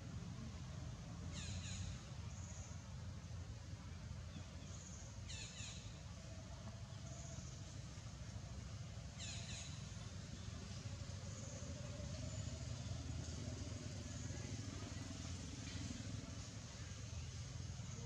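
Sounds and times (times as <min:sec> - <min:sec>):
distant vehicle engine rumble: 0:00.0 - 0:18.0.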